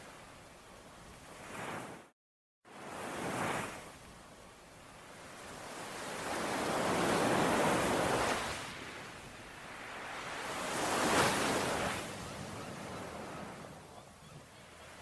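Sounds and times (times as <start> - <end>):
ocean waves washing ashore: 0.0 - 2.1, 2.7 - 15.0.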